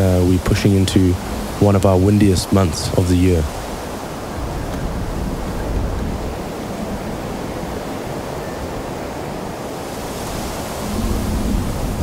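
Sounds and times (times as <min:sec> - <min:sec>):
low wind rumble: 0:00.0 - 0:12.0
wind blowing: 0:00.0 - 0:12.0.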